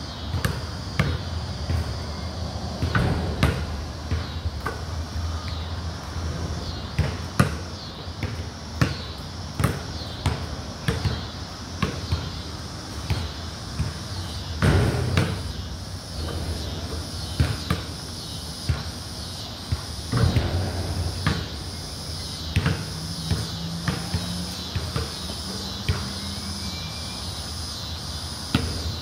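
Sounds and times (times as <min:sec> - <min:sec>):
basketball bouncing on concrete: 0:00.3 - 0:05.6, 0:06.6 - 0:15.7, 0:16.6 - 0:18.9, 0:19.7 - 0:26.5.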